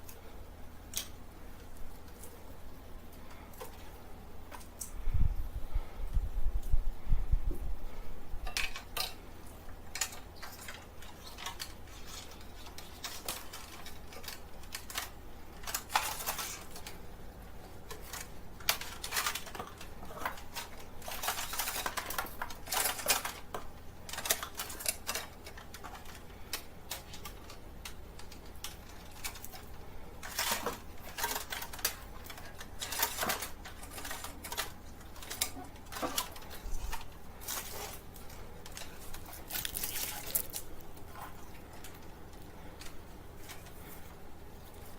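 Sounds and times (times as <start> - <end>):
low steady hum: 0.0 - 44.9
hard objects clicking and clattering: 8.4 - 44.9.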